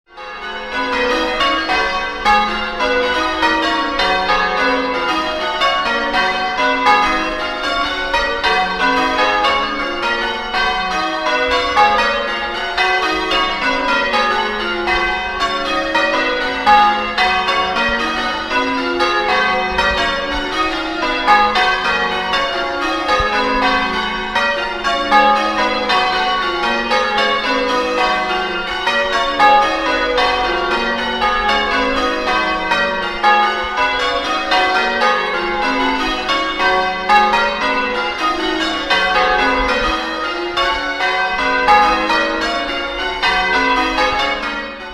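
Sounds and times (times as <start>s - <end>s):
church bells pealing: 0.1s - 44.9s.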